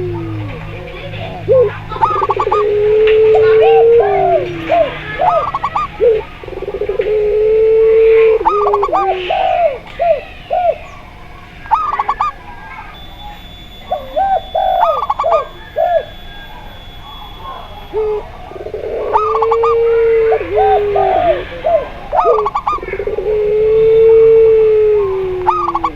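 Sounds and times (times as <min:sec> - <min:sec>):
long low dove coos: 0:00.0 - 0:13.1, 0:13.8 - 0:25.9
doves cooing: 0:00.0 - 0:25.9.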